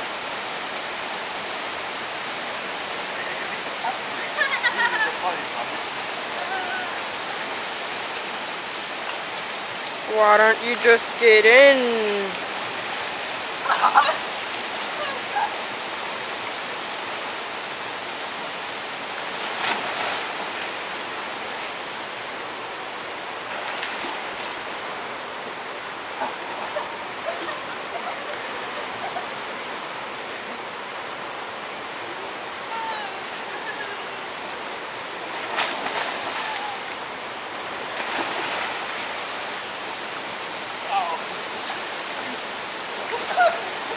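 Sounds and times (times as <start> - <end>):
river water rushing over rocks: 0.0 - 43.9.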